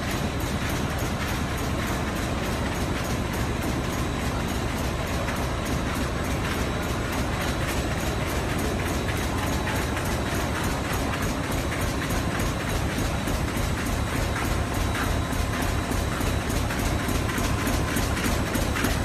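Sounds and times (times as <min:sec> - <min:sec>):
machinery clattering: 0:00.0 - 0:19.0.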